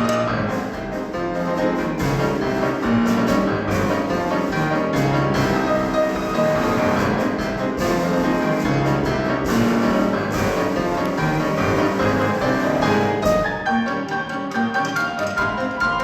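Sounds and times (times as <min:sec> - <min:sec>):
piano and drums march: 0:00.0 - 0:16.0.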